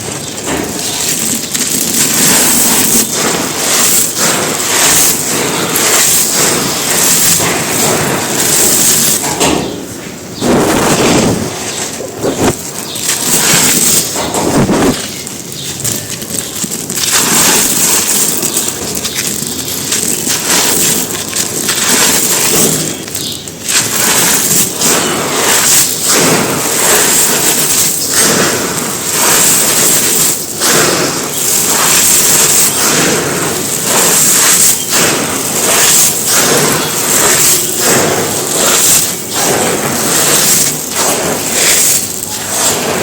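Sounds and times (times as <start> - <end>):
cement lumps crunching: 0.0 - 43.0.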